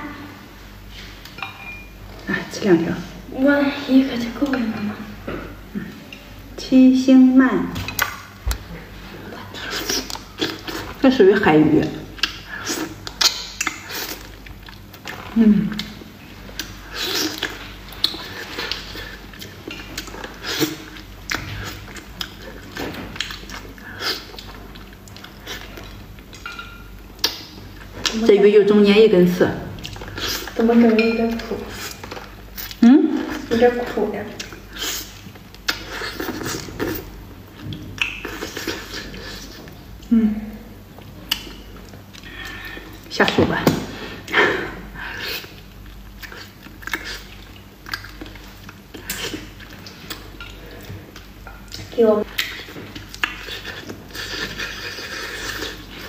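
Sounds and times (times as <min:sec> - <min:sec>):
person eating and chewing: 0:07.8 - 0:11.0, 0:11.8 - 0:28.3, 0:29.7 - 0:43.1, 0:44.0 - 0:56.0.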